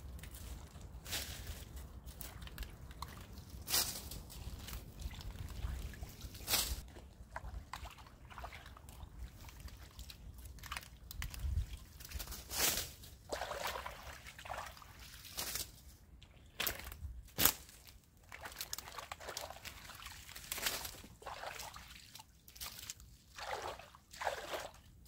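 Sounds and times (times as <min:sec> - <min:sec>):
water sloshing and splashing: 0:00.1 - 0:16.9, 0:18.2 - 0:25.0.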